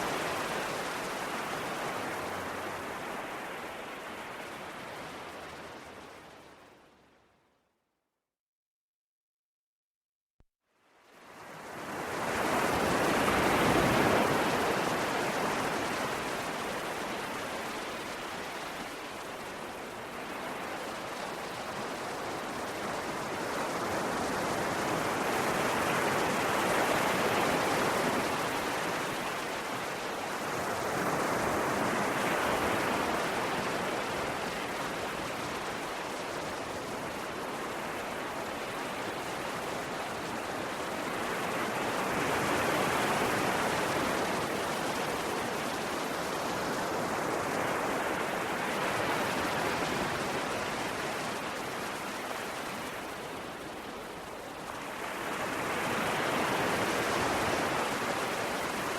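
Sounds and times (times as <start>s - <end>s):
sea waves washing onto shore: 0.0s - 6.6s, 11.1s - 58.9s.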